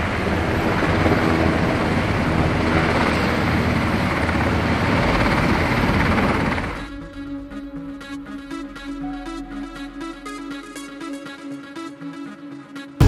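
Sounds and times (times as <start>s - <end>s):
helicopter rotor and turbine noise: 0.0s - 13.0s.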